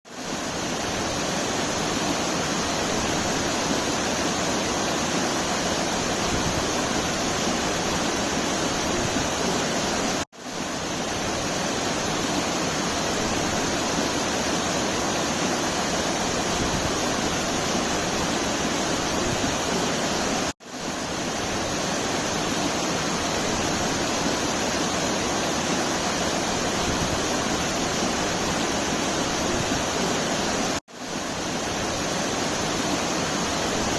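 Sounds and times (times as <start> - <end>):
waterfall roaring: 0.2 - 33.9.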